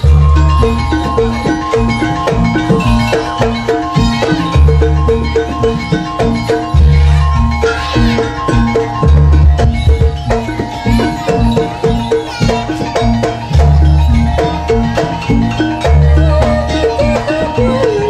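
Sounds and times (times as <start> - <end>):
gamelan music: 0.0 - 18.0
metallophones and gongs: 0.0 - 18.0
wavering melody line: 0.0 - 18.0.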